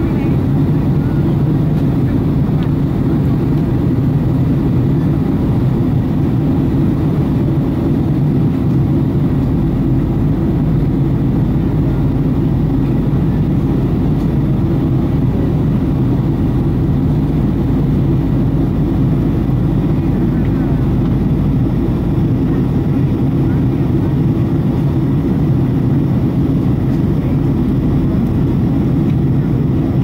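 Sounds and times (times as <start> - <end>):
airliner cabin drone: 0.0 - 30.0.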